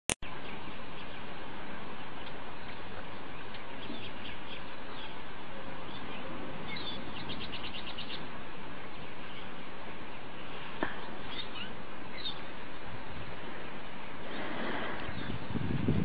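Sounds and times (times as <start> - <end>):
steady background noise: 0.2 - 16.0
small birds chirping: 0.3 - 16.0.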